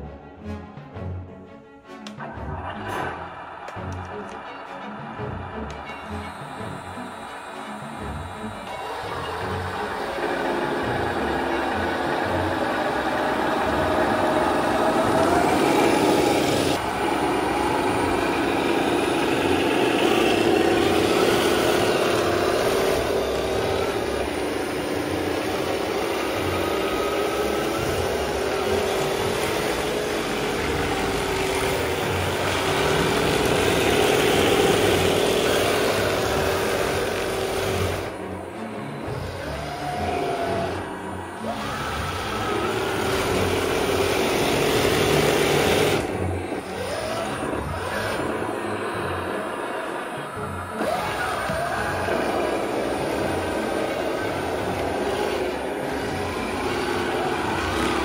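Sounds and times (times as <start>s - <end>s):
toy tank motors whining: 5.2s - 58.0s.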